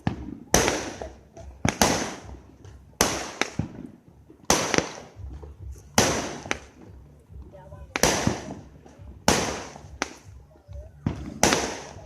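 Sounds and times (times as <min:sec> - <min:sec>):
fireworks banging and crackling: 0:00.0 - 0:12.0.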